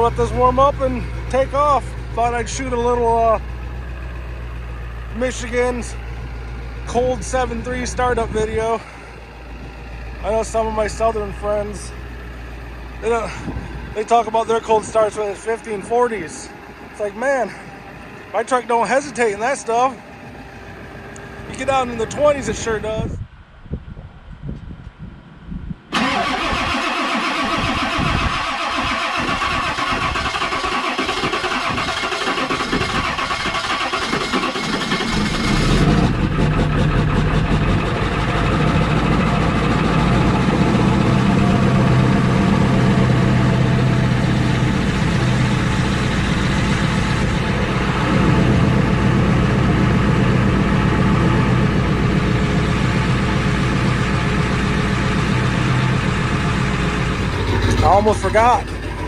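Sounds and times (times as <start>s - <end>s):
diesel engine idling: 0.0s - 23.1s, 25.9s - 59.0s.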